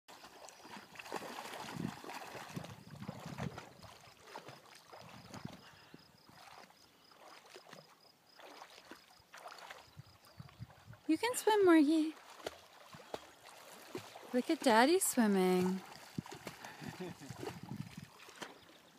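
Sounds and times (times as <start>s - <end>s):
water splashing from dog paddling: 0.1s - 11.1s, 12.1s - 18.9s.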